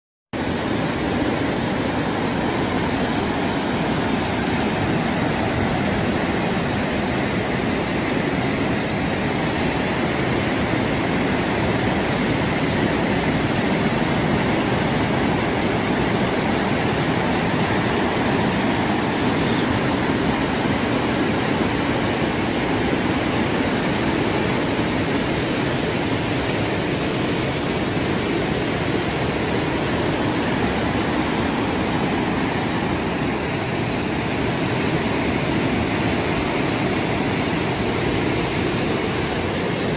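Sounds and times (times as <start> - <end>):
floodwater rushing: 0.4 - 39.9.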